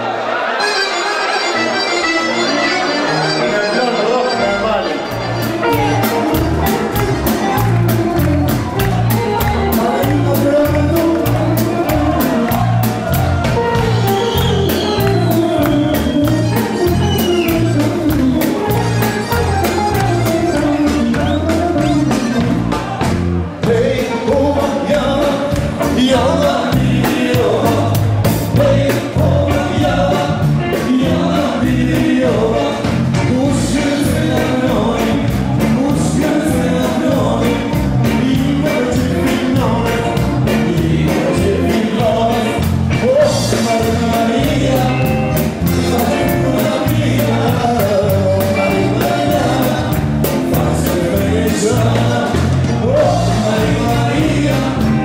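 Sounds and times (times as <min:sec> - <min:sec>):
live band playing: 0:00.1 - 0:55.0
person singing: 0:01.6 - 0:55.0.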